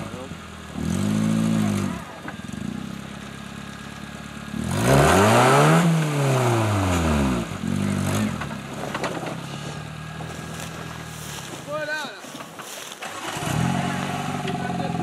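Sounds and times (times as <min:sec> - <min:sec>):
engine revving: 0:00.0 - 0:11.5, 0:13.0 - 0:15.0.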